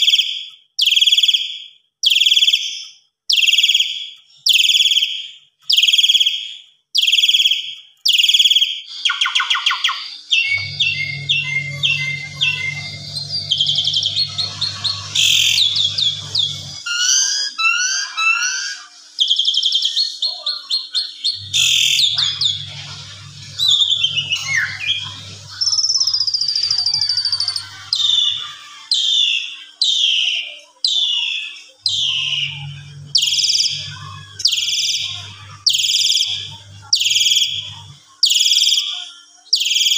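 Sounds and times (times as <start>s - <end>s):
starling singing: 7.0s - 39.0s.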